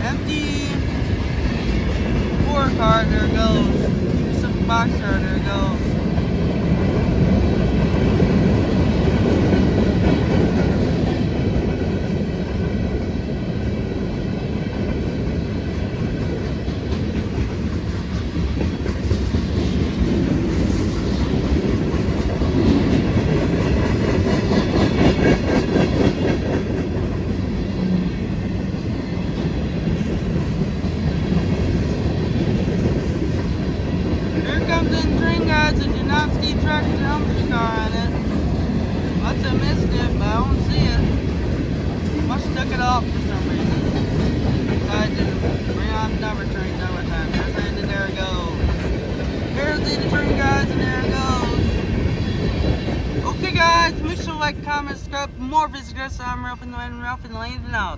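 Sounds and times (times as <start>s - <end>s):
clickety-clack over rail joints: 0.0s - 55.6s
freight train wheels rumbling on rail: 0.0s - 57.9s.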